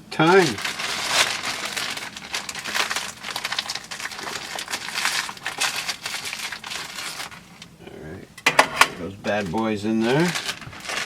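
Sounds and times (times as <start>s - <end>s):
plastic packaging crinkling: 0.2s - 7.8s, 8.4s - 11.0s.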